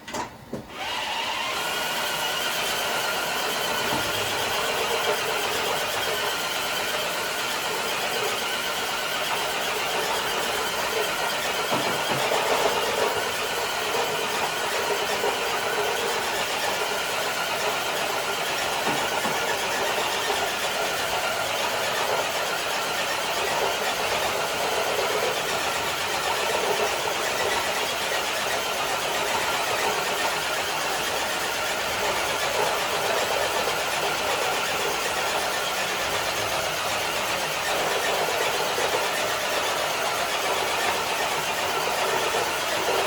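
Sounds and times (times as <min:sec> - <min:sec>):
rc truck motor whining: 0:00.7 - 0:43.0.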